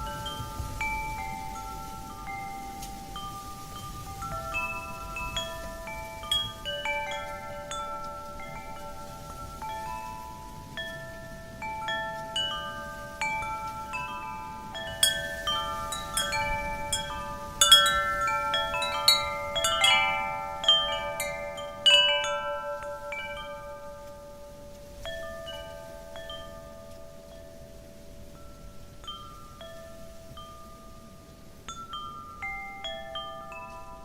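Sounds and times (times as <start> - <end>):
soft wind rushing: 0.0 - 34.0
wind chime jingling: 0.0 - 34.0.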